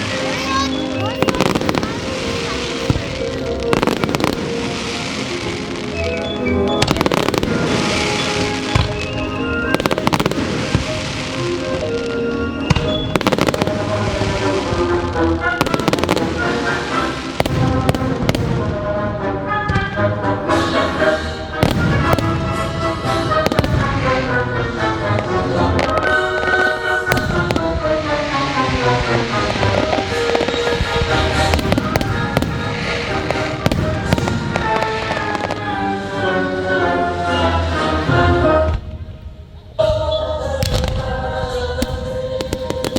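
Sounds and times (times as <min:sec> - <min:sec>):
fireworks bursting and crackling: 0:00.0 - 0:39.2, 0:39.9 - 0:42.9
loud music soundtrack: 0:00.0 - 0:42.9.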